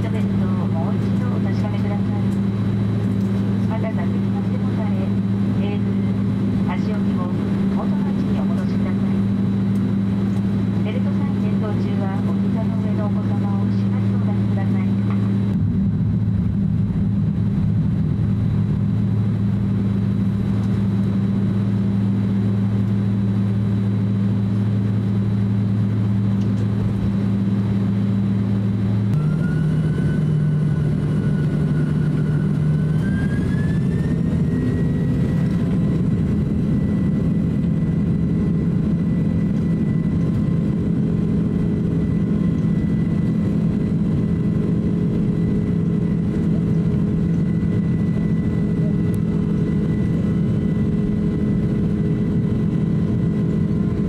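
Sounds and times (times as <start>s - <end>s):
airliner cabin hum: 0.0s - 54.0s
jet engines whining: 0.0s - 54.0s.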